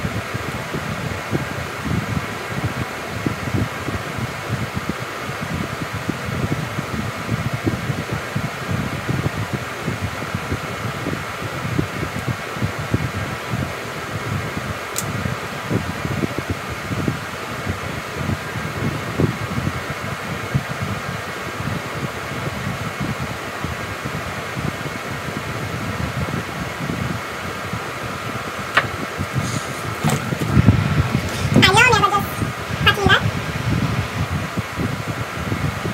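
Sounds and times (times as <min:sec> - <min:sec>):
fan whirring: 0:00.0 - 0:35.9.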